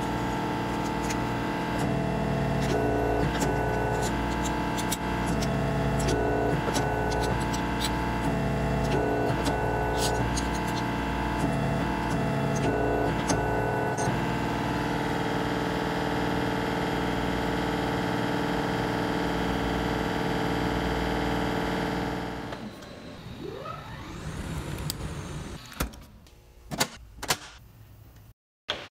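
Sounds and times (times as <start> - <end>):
gliding whine: 0.0 - 25.6
shop machinery humming: 0.0 - 26.7.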